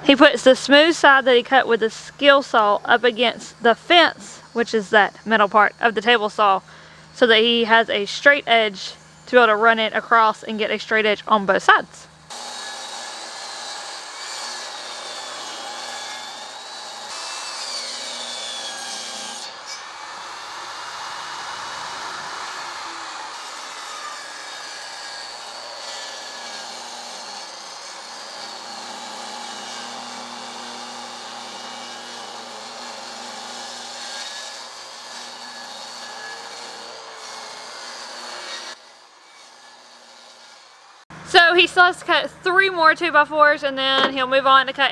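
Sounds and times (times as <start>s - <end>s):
table saw cutting wood: 0.0s - 41.9s.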